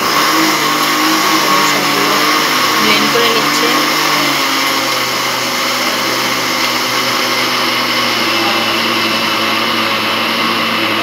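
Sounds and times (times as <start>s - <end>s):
electric blender running: 0.0s - 11.0s.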